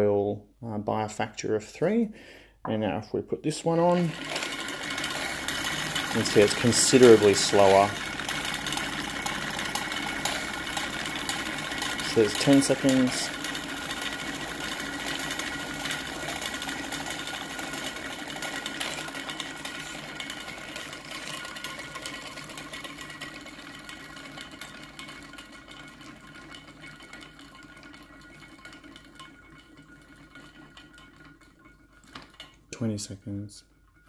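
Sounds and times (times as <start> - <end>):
whirring rattle of gear teeth: 4.0 - 32.6.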